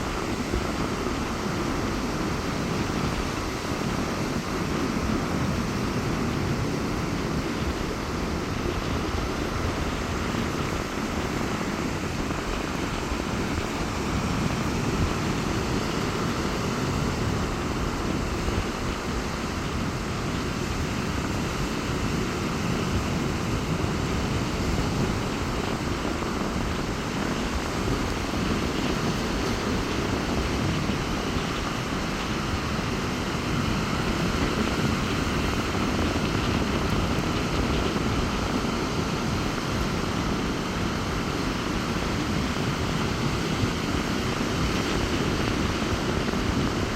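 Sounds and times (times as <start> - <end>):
surf breaking on beach: 0.0 - 46.9
wind buffeting microphone: 0.0 - 46.9.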